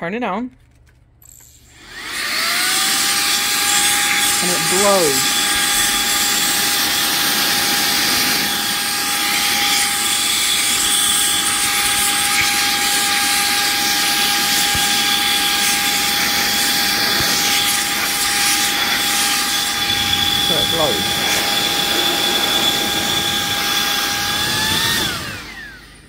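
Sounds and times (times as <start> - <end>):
handheld vacuum blowing air: 1.4 - 26.0
high motor whine: 1.6 - 26.0.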